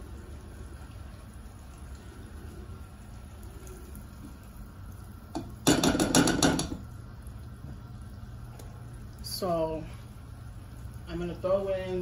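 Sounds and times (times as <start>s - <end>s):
butter sizzling in a saucepan: 0.0s - 12.0s.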